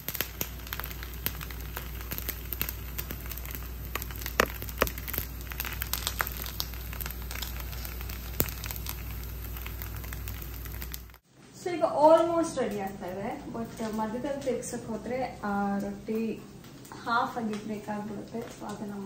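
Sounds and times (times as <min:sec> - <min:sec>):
roti crackling and popping in oil: 0:00.0 - 0:11.2, 0:12.6 - 0:19.0
low steady hum: 0:00.0 - 0:19.0.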